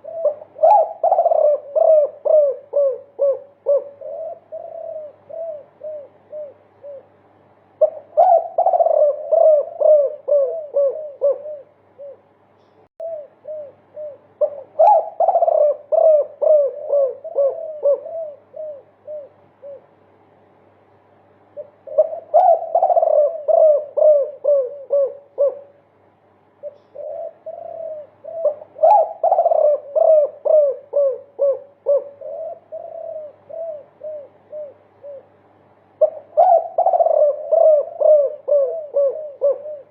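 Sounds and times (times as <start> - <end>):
doves cooing: 0.0 - 20.1, 21.5 - 25.9, 26.6 - 39.9.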